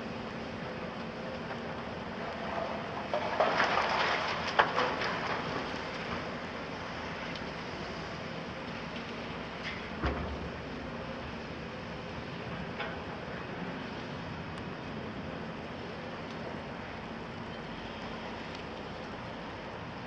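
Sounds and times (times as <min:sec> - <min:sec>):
excavator engines rumbling: 0:00.0 - 0:20.0.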